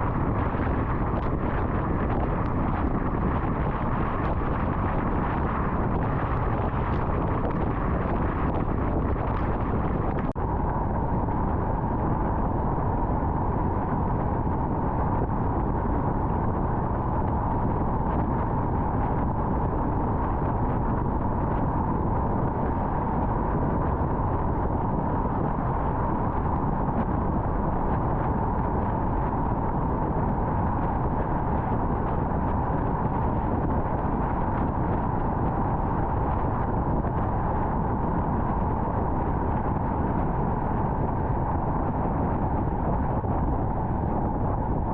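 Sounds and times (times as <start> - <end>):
car road and tyre noise: 0.0 - 44.9.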